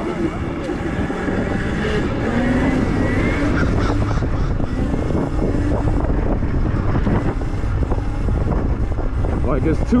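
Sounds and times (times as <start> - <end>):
electric motor whine: 0.0 - 10.0
road noise: 0.0 - 10.0
wind buffeting microphone: 0.0 - 10.0.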